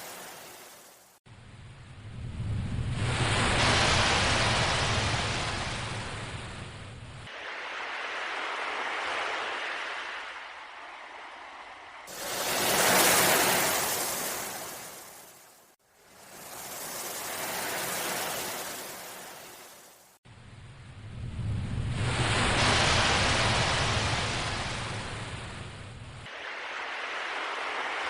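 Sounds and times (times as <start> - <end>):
ocean waves washing in: 0.0 - 28.0.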